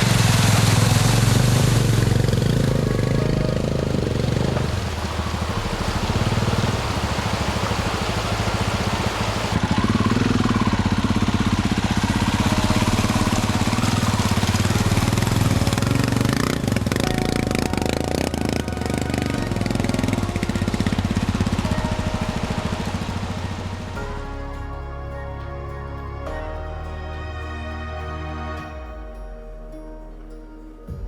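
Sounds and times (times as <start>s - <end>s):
motorcycle engine running: 0.0s - 25.2s.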